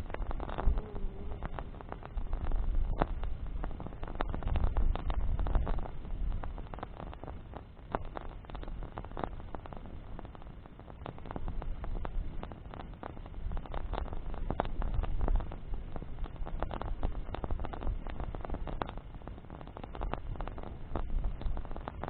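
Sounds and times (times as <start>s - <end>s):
bonfire crackling and popping: 0.0s - 22.0s
low steady rumble: 0.0s - 22.0s.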